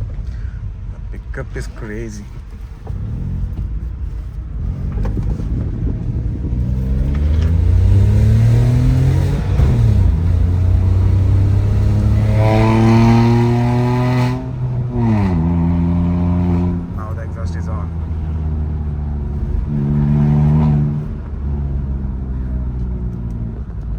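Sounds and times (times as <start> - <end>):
car engine accelerating hard: 0.0 - 23.9.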